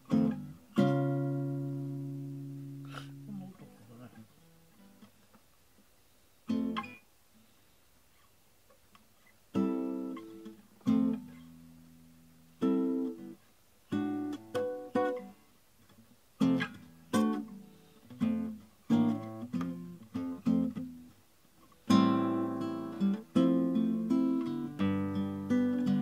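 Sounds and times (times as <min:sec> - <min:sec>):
classical guitar chords: 0:00.0 - 0:05.3, 0:06.4 - 0:07.0, 0:09.5 - 0:26.0.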